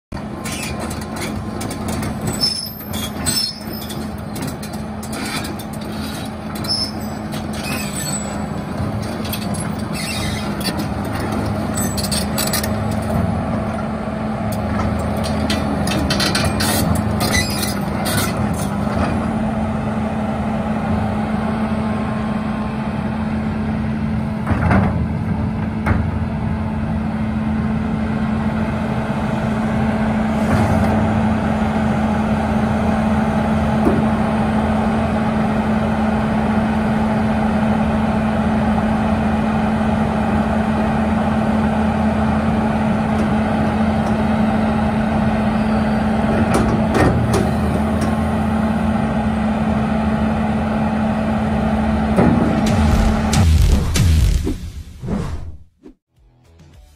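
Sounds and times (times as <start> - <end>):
excavator diesel engine humming: 0.1 - 53.7.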